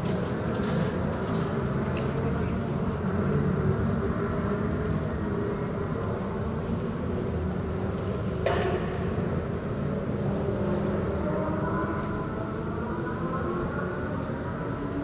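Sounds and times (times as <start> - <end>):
indoor arena rumble: 0.0 - 15.0.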